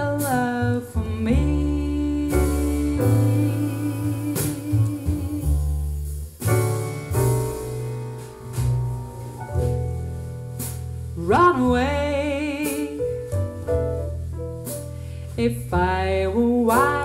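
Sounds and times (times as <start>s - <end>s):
jazz ballad through speakers: 0.0s - 17.0s.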